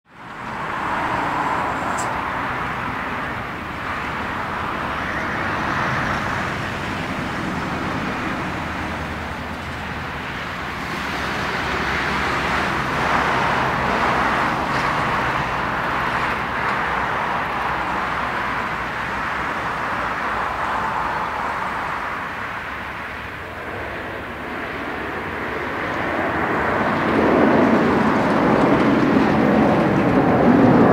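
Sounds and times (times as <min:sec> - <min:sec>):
jet engine roar with whine: 0:00.1 - 0:30.9.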